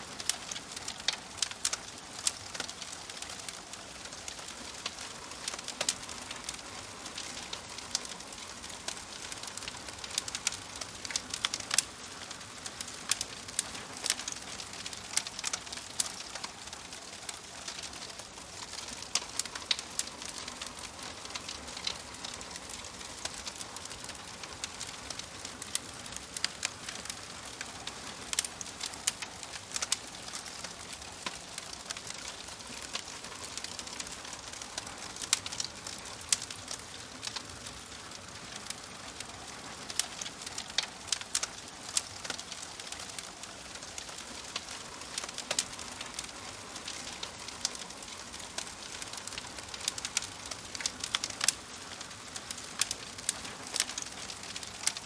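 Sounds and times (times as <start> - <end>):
fire crackling: 0.0 - 55.0
soft hiss of fire: 0.0 - 55.0.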